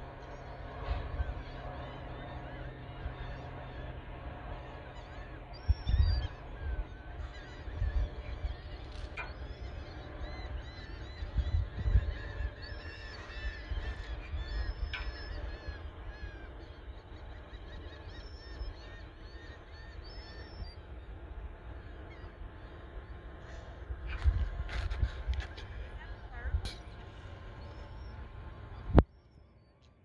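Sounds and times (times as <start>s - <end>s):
flock of birds calling: 0.0s - 29.0s
low rumbling noise: 0.0s - 29.8s.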